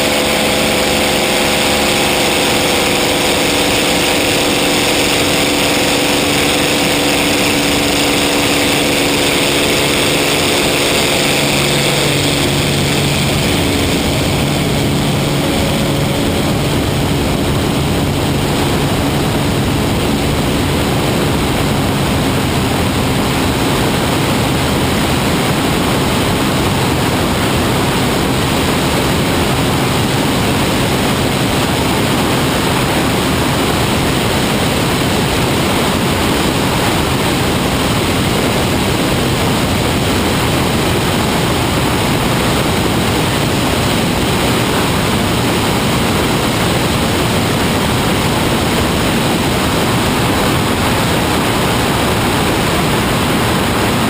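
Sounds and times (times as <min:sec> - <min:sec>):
propeller aircraft engine: 0:00.0 - 0:54.0
steady rushing noise: 0:00.0 - 0:54.0.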